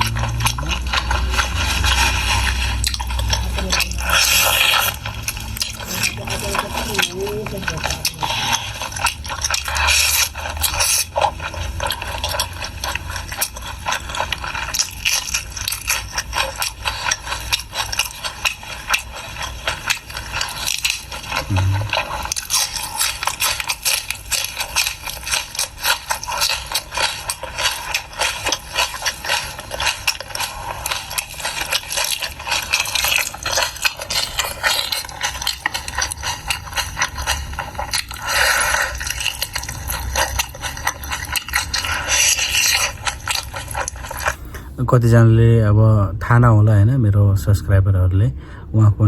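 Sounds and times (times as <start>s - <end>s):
person chewing food: 0.0s - 45.3s.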